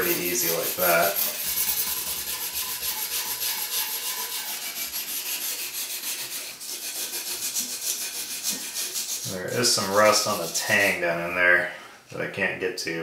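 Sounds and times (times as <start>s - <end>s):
wire brush scrubbing steel blade: 0.0s - 11.0s.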